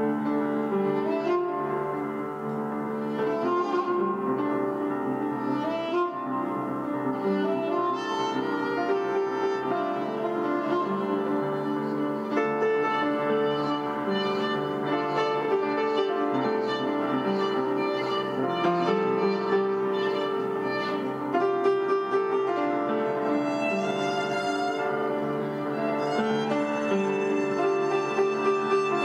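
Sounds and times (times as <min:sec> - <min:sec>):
bowed violin melody: 0:00.0 - 0:29.0
piano accompaniment: 0:00.0 - 0:29.0.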